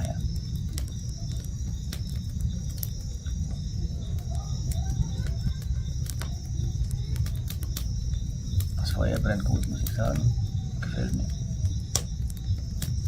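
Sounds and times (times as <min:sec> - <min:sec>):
campfire crackling and popping: 0:00.0 - 0:13.0
continuous low rumble: 0:00.0 - 0:13.0
night insects trilling: 0:00.0 - 0:13.0.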